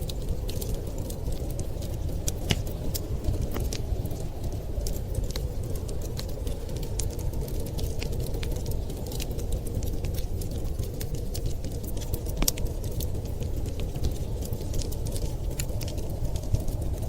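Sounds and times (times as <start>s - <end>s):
blizzard wind rushing: 0.0s - 17.0s
wood fire crackling and popping: 0.0s - 17.0s.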